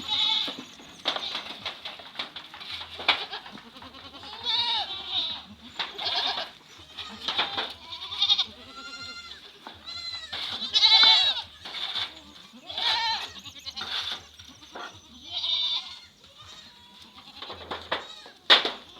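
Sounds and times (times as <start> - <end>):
goats bleating: 0.0 - 1.8, 2.6 - 18.9.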